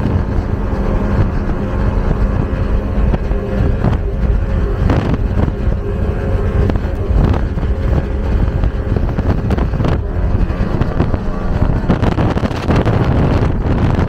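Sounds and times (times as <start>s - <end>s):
boat engine drone: 0.0s - 14.0s
wind buffeting microphone: 0.0s - 14.0s.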